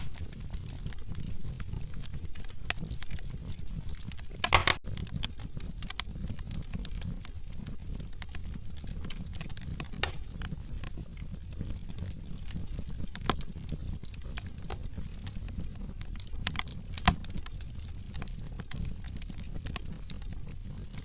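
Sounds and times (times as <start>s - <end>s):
logs crackling in a fireplace: 0.0s - 21.0s.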